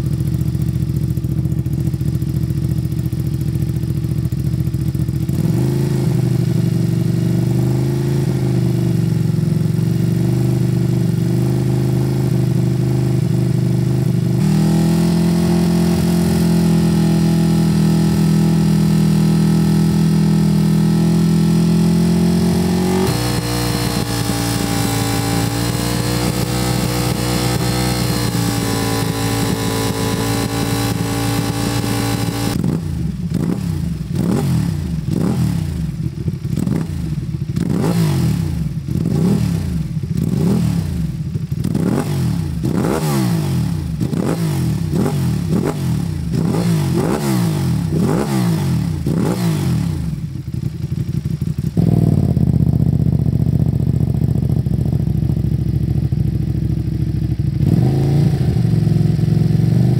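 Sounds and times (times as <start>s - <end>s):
motorcycle engine idling: 0.0s - 14.4s, 23.3s - 42.8s, 43.8s - 59.9s
motorcycle engine revving: 0.0s - 59.9s.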